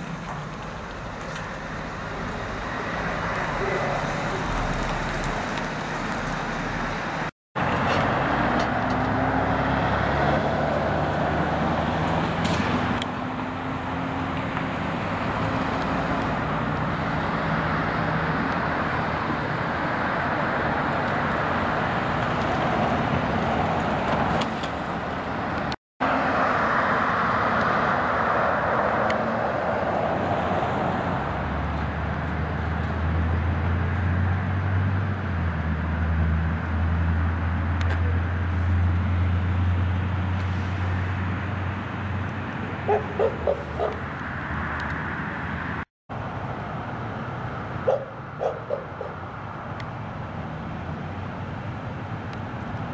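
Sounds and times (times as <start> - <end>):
car tyre and engine noise: 0.0 - 52.9.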